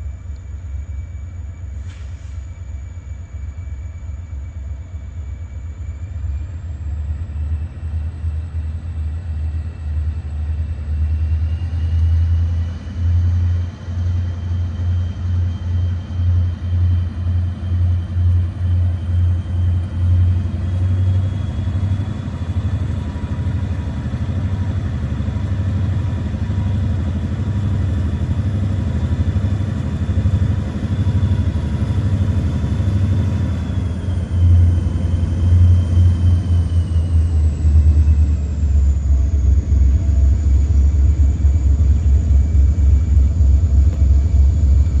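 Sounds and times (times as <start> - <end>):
engine low rumble: 0.0 - 45.0
faint steady whine: 0.0 - 45.0.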